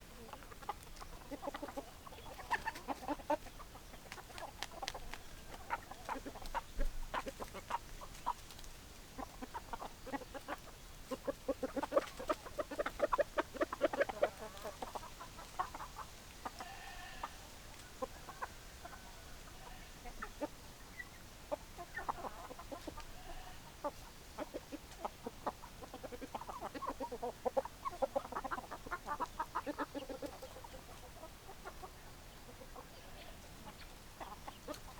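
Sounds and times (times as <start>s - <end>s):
hens clucking: 0.0s - 34.9s.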